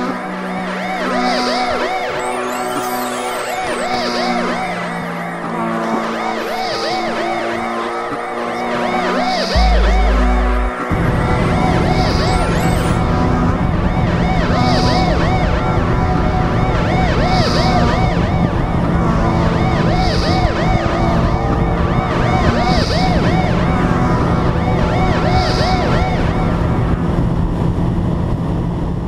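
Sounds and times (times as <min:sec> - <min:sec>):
music with siren-like wailing: 0:00.0 - 0:29.0.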